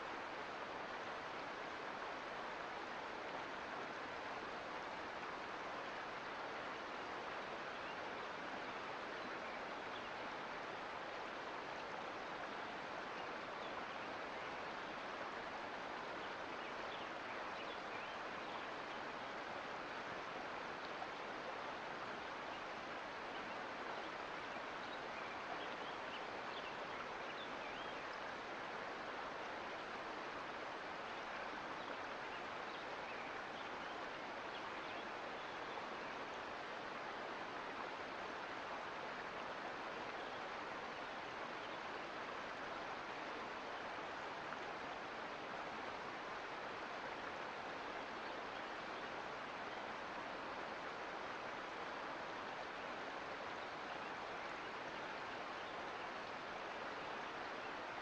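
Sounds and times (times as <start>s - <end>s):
creek water rushing: 0.0s - 58.0s.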